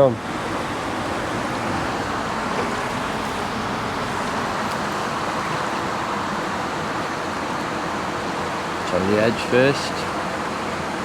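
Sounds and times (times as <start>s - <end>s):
fast shallow river rushing: 0.2s - 11.0s.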